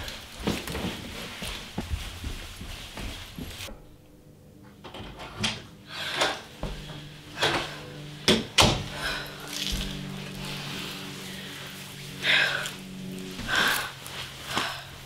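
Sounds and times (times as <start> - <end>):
footsteps on carpeted stairs: 0.0 - 4.0, 6.1 - 12.5, 13.2 - 15.0.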